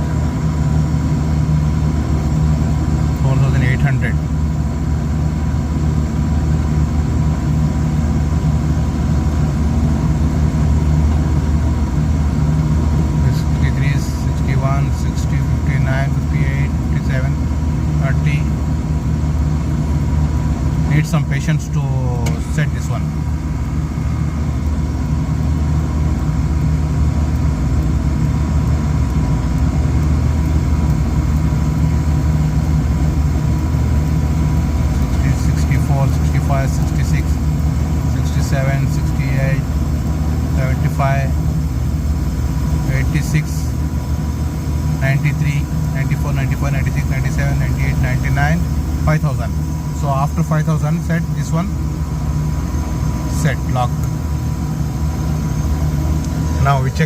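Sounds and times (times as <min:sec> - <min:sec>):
air-conditioning unit humming: 0:00.0 - 0:57.0.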